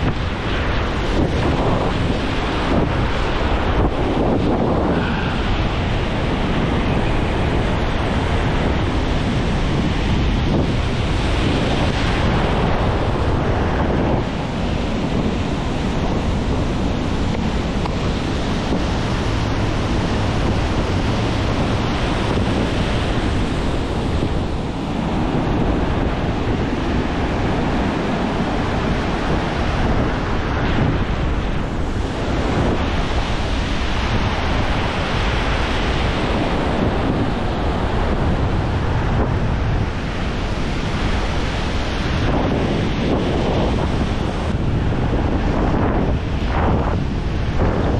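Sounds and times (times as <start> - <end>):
ocean surf breaking: 0.0 - 47.9
wind on microphone: 0.0 - 47.9.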